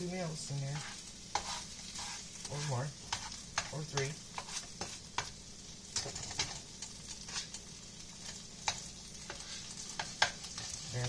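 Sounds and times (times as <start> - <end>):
rice sizzling in a frying pan: 0.0 - 11.0
utensil scraping a pan: 0.6 - 5.4, 6.0 - 7.6, 8.2 - 11.0.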